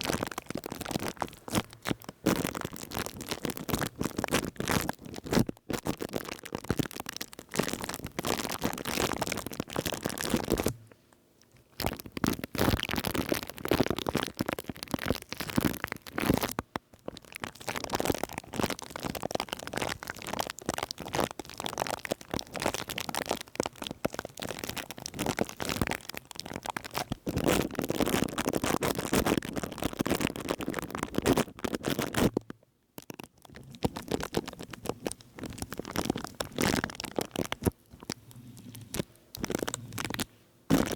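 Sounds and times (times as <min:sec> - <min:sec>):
crackling and crinkling on microphone: 0:00.0 - 0:40.9.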